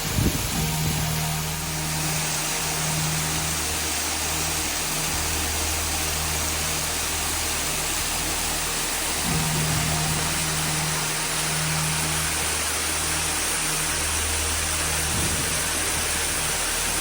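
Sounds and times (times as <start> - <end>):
low steady hum: 0.0 - 17.0
waterfall roar: 0.0 - 17.0.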